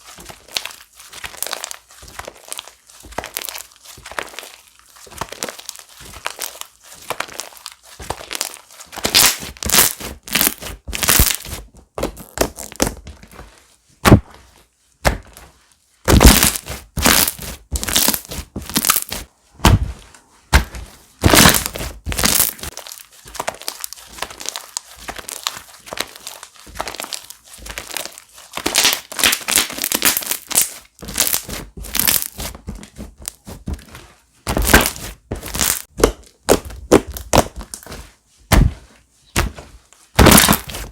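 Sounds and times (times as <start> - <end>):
slime squelching and popping: 0.1 - 13.1, 16.1 - 40.9.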